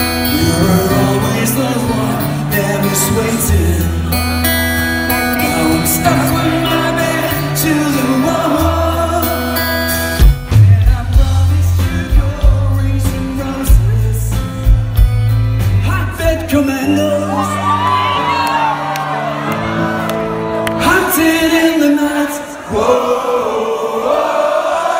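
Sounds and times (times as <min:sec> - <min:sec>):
live rock band playing: 0:00.0 - 0:22.2.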